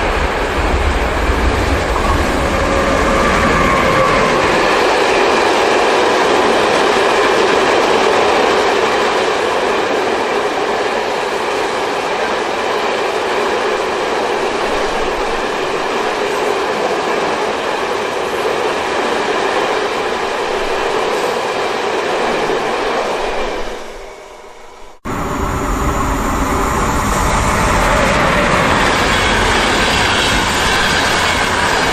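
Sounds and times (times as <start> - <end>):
train rumbling along track: 0.0 - 31.9.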